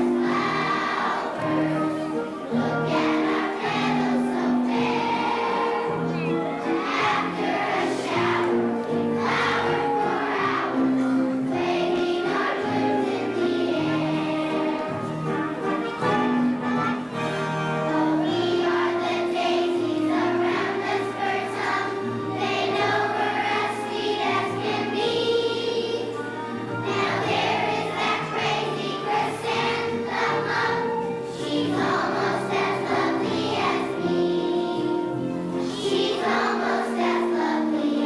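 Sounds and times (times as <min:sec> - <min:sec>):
children's choir singing: 0:00.0 - 0:38.0
instrumental accompaniment: 0:00.0 - 0:38.0.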